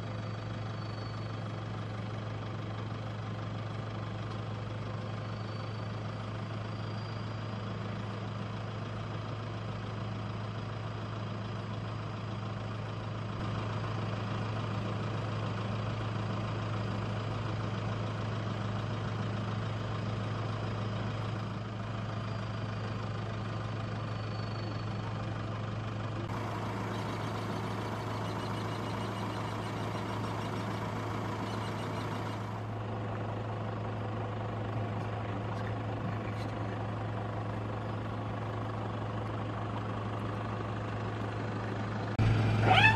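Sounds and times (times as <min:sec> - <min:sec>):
vehicle engine idling: 0:00.0 - 0:42.9.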